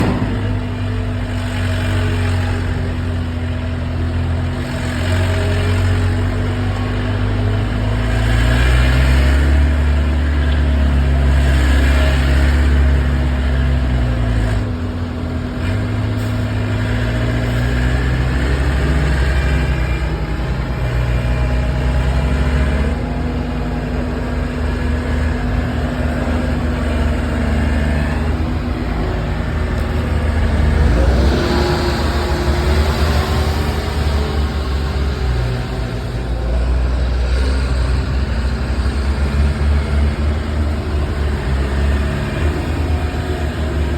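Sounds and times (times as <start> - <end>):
loader engine revving: 0.0 - 43.9.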